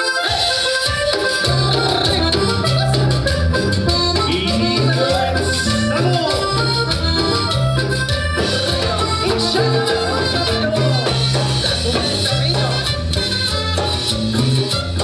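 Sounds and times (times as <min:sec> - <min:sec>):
latin dance band playing: 0:00.0 - 0:15.0.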